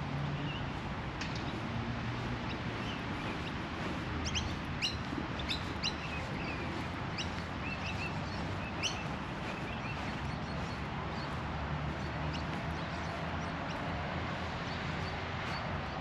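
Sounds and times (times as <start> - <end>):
steady background noise: 0.0 - 16.0
birds chirping: 0.4 - 16.0.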